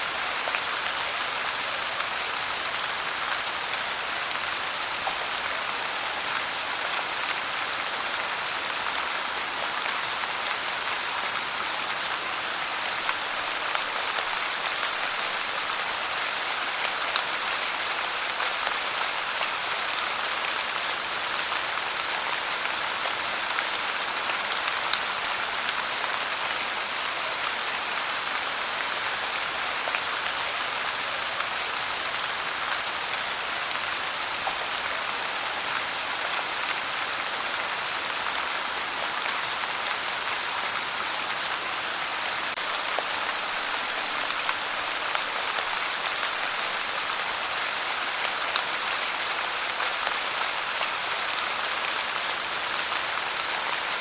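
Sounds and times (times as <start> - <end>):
steady pouring rain: 0.0 - 54.0.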